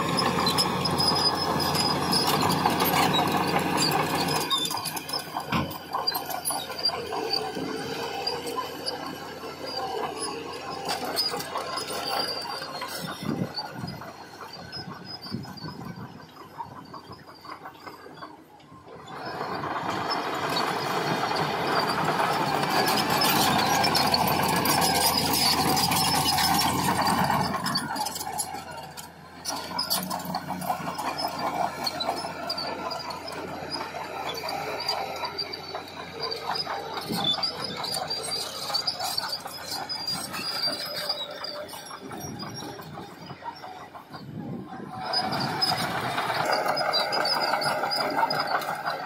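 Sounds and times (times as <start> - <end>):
earthmoving machine engine running: 0.0 - 49.0
steel tracks squealing and rattling: 0.0 - 49.0.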